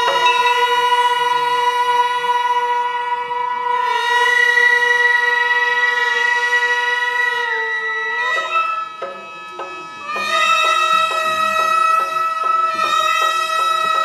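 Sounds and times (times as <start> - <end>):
higher wind instrument tone: 0.0 - 14.0
reedy wind instrument note: 0.0 - 14.0.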